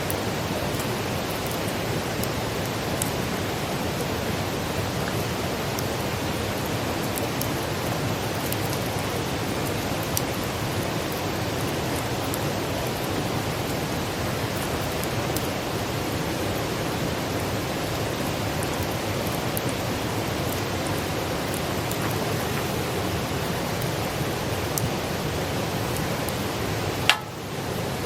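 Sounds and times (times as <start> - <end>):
campfire crackling and hissing: 0.0 - 28.0.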